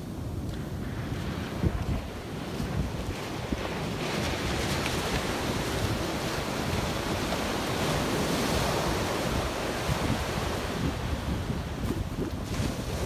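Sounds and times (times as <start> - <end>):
ocean surf breaking on beach: 0.0 - 13.0
wind rumbling on microphone: 0.0 - 13.0.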